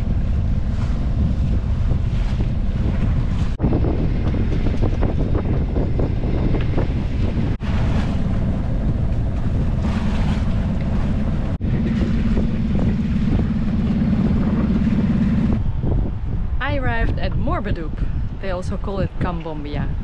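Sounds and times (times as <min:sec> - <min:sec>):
waves and water splashing: 0:00.0 - 0:19.9
low hum: 0:00.0 - 0:20.0
wind buffeting microphone: 0:00.0 - 0:20.0.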